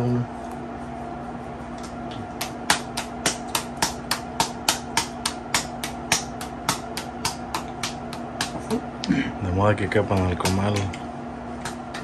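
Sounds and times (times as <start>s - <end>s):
hands patting dough: 0.5s - 8.9s, 9.7s - 12.0s.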